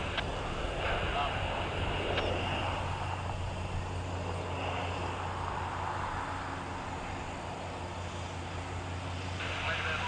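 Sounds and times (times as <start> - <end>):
distant jet engine rumble: 0.0 - 10.0.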